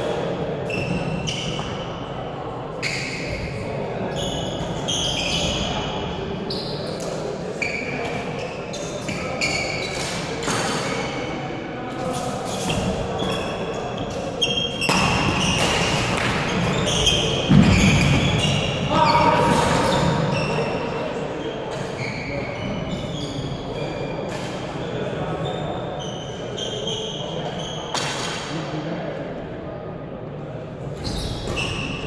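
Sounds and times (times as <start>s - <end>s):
background chatter: 0.0s - 32.0s
shoe squeaks: 0.6s - 1.8s, 2.8s - 11.4s, 12.0s - 28.3s, 31.0s - 32.0s.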